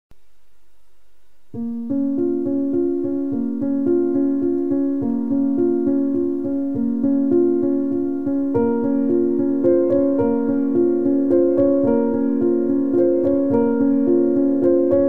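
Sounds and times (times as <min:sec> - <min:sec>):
faint low hum: 0:00.1 - 0:15.0
keyboard piano music: 0:01.5 - 0:15.0.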